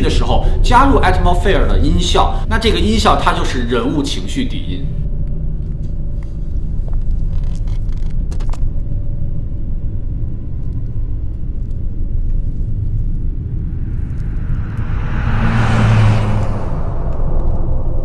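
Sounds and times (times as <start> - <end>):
low suspenseful drone: 0.0 - 18.0.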